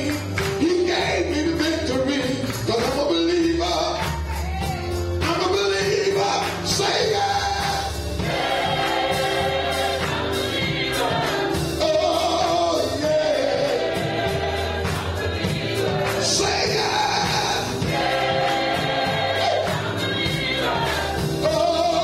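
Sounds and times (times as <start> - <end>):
band bass and drum beat: 0.0 - 22.0
gospel choir singing: 0.0 - 22.0.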